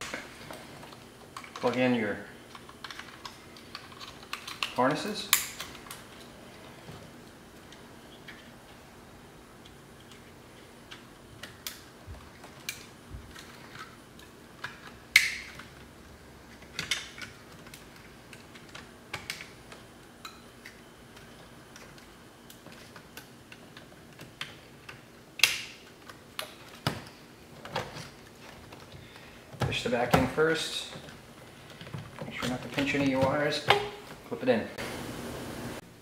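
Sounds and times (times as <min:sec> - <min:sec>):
plastic connectors clicking and rattling: 0:00.0 - 0:01.8, 0:02.5 - 0:06.3, 0:09.6 - 0:15.9, 0:16.5 - 0:34.0.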